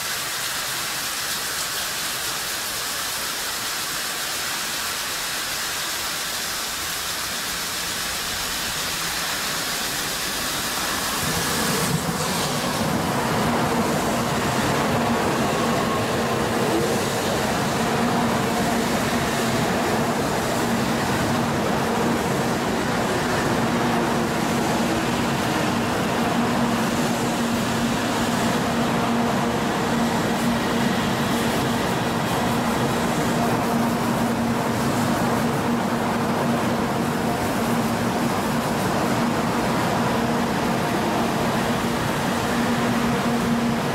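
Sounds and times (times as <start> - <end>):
track sprinklers hissing: 0.0 - 43.9
train running rumble with low hum: 0.0 - 43.9.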